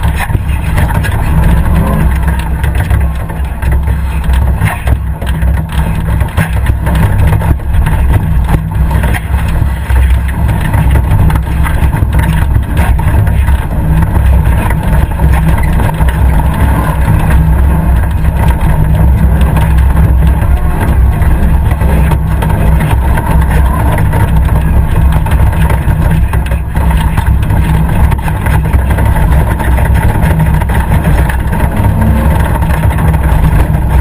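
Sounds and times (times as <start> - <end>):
vehicle engine running hard: 0.0 - 34.0
vehicle knocks and rattles: 0.0 - 34.0.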